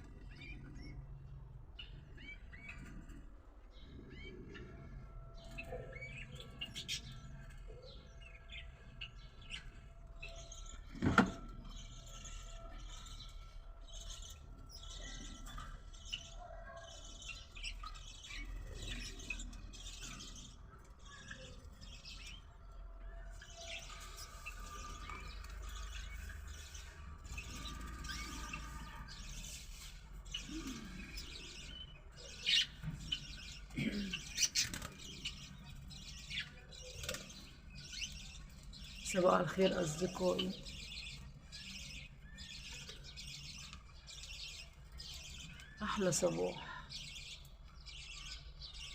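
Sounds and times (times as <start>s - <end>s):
lovebirds chirping: 0.0s - 48.9s.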